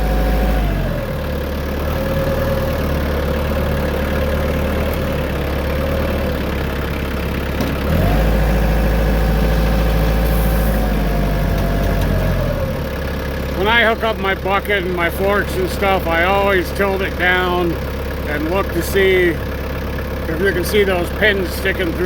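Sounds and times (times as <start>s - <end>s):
tractor engine idling and revving: 0.0s - 22.0s.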